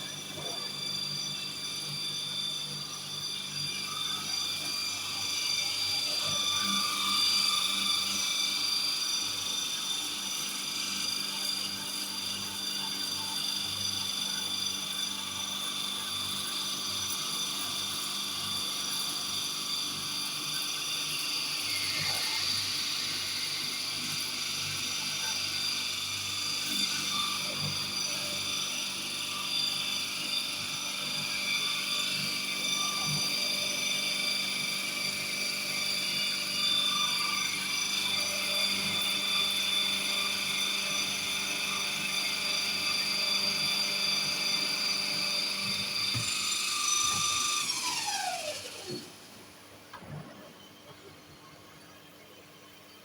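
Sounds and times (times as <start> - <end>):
welding machine whine: 0.0 - 53.0.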